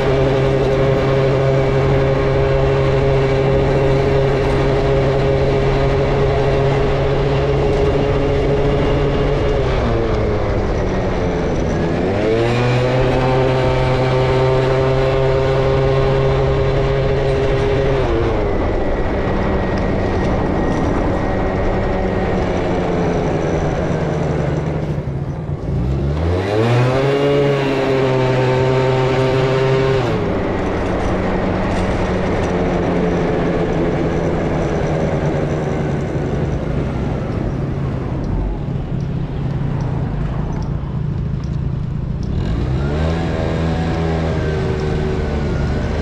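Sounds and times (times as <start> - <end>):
moped engine revving: 0.0 - 46.0.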